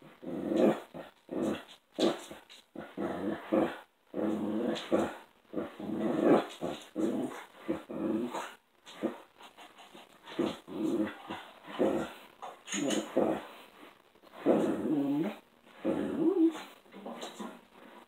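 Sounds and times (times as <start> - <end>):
dog grunting and growling: 0.0 - 9.3, 10.2 - 13.6, 14.3 - 17.7.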